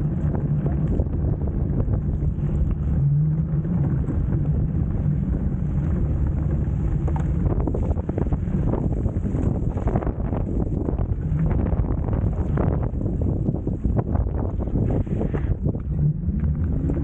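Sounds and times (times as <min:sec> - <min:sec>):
low steady hum: 0:00.0 - 0:17.0
tyres rolling over slushy snow: 0:00.0 - 0:17.0
wind rumbling on microphone: 0:00.0 - 0:17.0.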